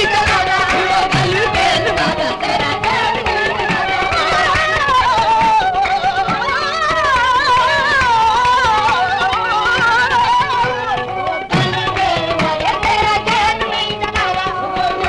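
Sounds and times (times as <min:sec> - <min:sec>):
harmonium: 0:00.0 - 0:15.0
tabla drum strokes: 0:00.0 - 0:15.0.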